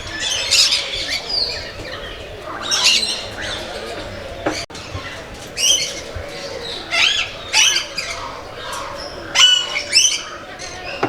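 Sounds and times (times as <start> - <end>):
birds squawking and calling: 0.0 - 11.0.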